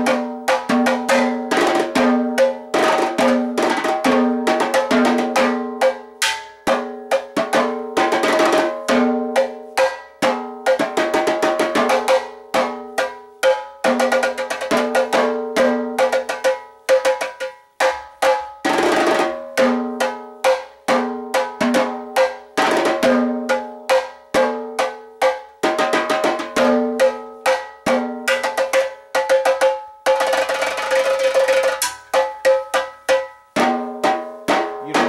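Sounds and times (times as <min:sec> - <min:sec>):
tenor drums played with sticks: 0:00.0 - 0:35.0.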